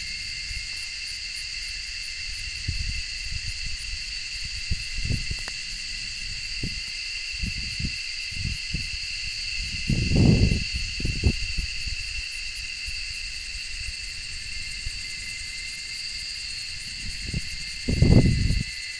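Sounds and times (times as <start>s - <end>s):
insects trilling: 0.0s - 18.9s.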